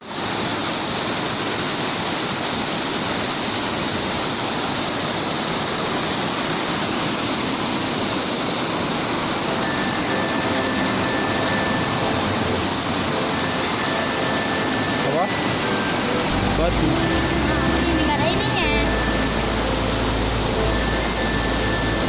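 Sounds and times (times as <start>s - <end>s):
waterfall splashing: 0.0s - 22.0s.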